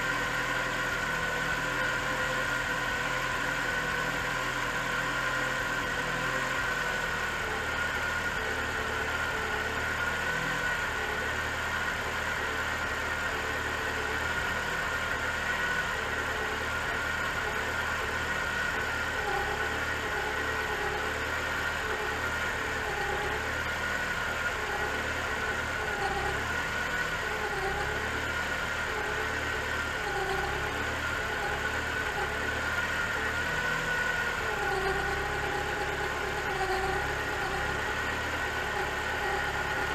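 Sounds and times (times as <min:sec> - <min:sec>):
car engine idling: 0:00.0 - 0:39.9
timing belt whine: 0:00.0 - 0:39.9.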